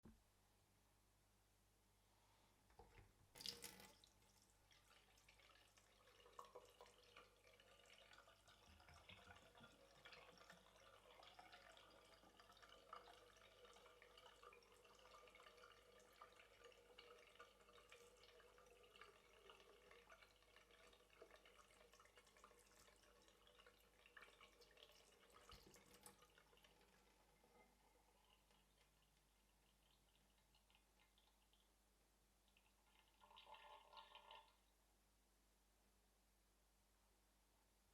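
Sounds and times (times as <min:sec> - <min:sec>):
water running into basin: 0:02.8 - 0:31.7, 0:32.4 - 0:34.6.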